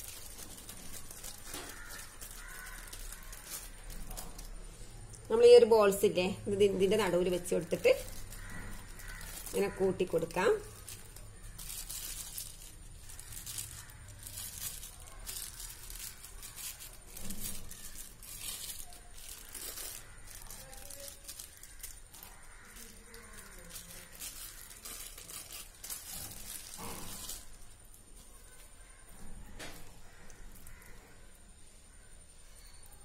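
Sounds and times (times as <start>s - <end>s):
plastic sheet crinkling: 0.0s - 31.0s.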